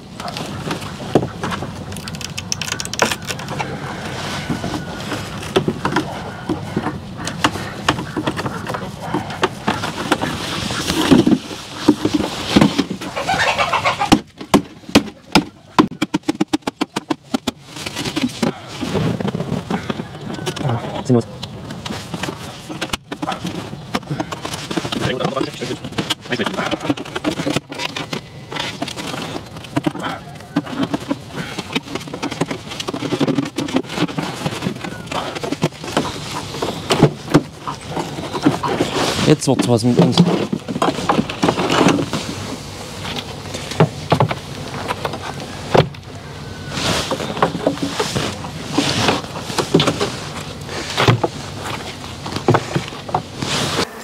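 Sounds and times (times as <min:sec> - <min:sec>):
wooden frames knocking and cracking: 0:00.0 - 0:53.4.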